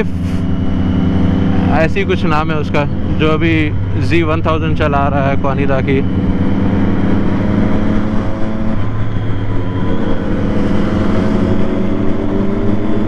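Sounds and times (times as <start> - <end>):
motorcycle engines cruising: 0.0 - 13.0
wind and road noise: 0.0 - 13.0.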